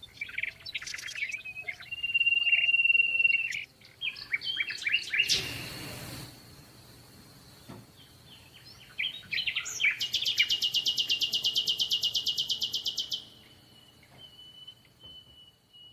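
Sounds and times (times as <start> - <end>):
bird-like chirping and trill: 0.0 - 6.0, 8.4 - 15.9.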